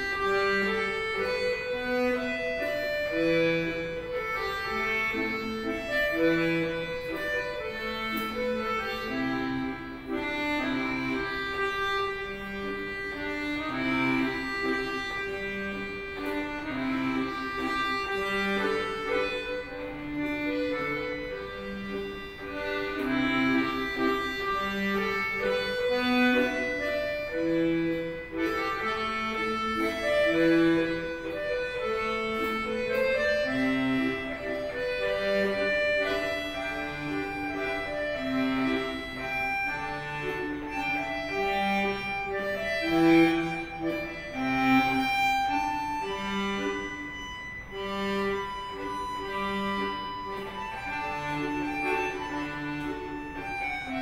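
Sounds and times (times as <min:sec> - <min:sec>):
piano accordion playing a tune: 0:00.0 - 0:54.0.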